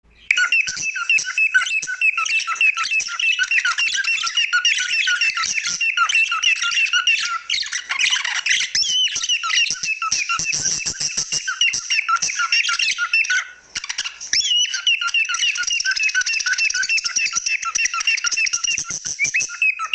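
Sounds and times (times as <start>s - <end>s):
birds chirping and squawking: 0.1s - 19.9s
warbling bird chatter: 0.1s - 19.9s.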